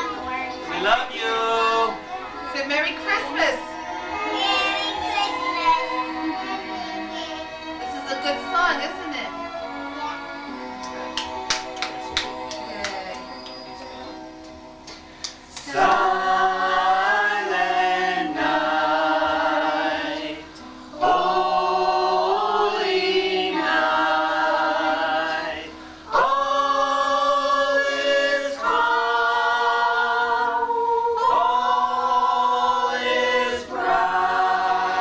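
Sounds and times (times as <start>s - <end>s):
adults and children singing together: 0.0s - 14.2s, 15.4s - 35.0s.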